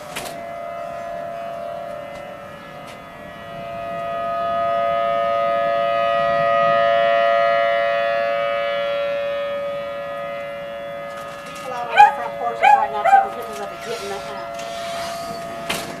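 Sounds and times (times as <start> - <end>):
warning siren wailing: 0.0 - 16.0.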